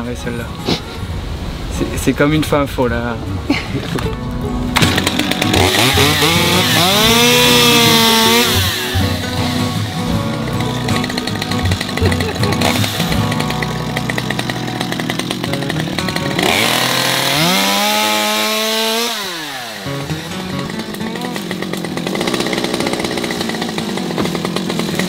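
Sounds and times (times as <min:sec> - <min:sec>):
chainsaw revving: 0:04.7 - 0:25.0.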